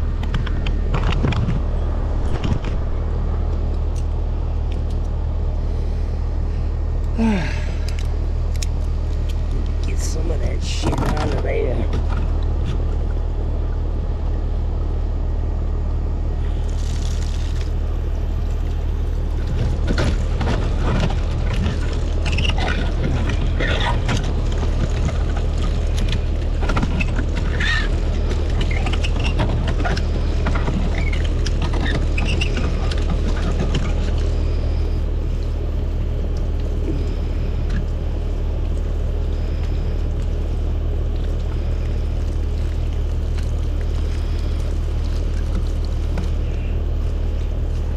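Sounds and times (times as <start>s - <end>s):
low mechanical hum: 0.0s - 47.9s.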